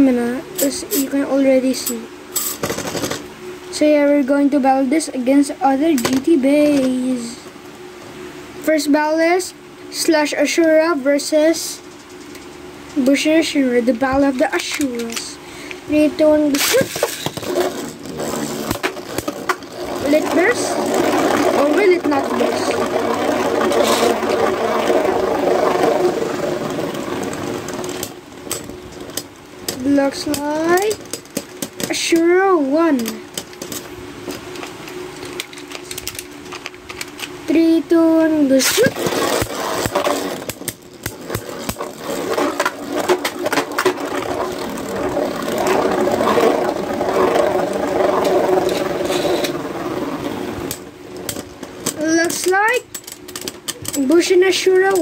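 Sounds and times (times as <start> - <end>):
spinning tops whirring and rattling: 0.0 - 7.4, 8.7 - 55.0.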